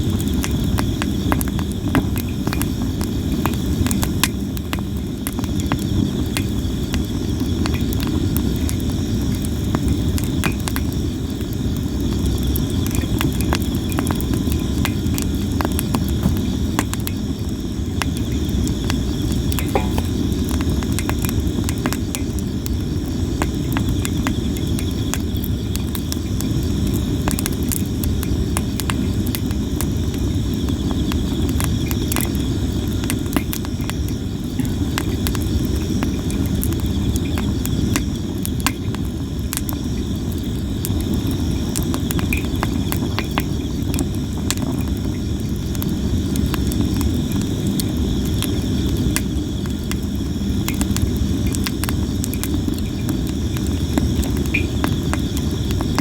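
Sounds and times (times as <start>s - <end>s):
firewood crackling and popping: 0.0s - 56.0s
insects trilling: 0.0s - 56.0s
low fire rumble: 0.0s - 56.0s.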